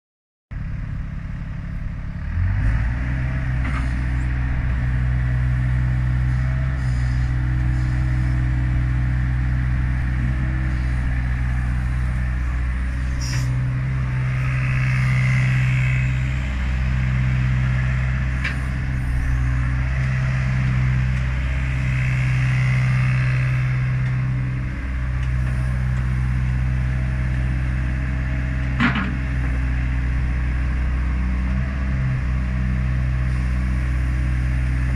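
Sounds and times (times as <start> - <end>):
excavator diesel engine idling: 0.6 - 34.9.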